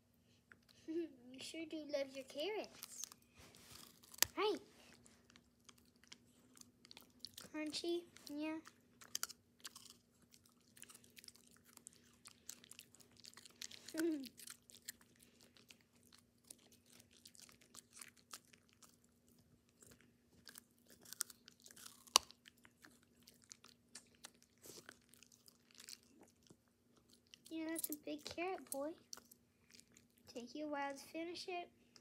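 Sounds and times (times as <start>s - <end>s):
dog crunching carrot: 2.1s - 30.3s.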